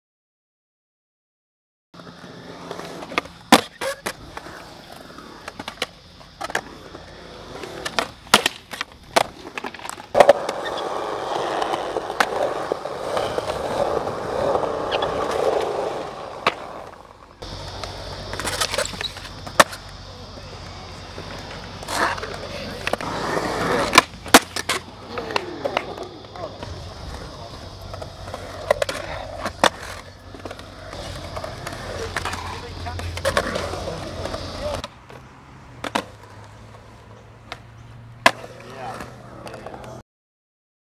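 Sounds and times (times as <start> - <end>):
skateboard clacks: 2.0 - 35.2, 35.8 - 40.0
skateboard wheels rolling on concrete: 2.0 - 40.0.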